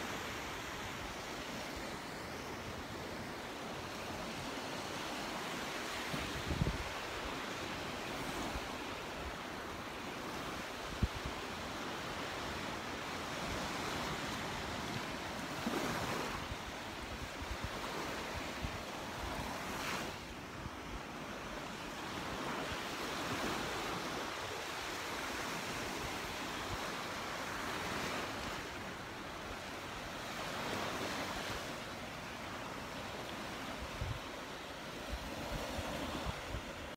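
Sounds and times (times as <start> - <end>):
surf washing onto beach: 0.0 - 36.9.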